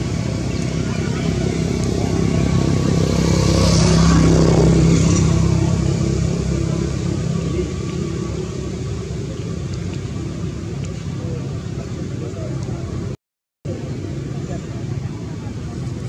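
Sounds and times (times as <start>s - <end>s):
motor vehicle passing by: 0.0s - 13.2s.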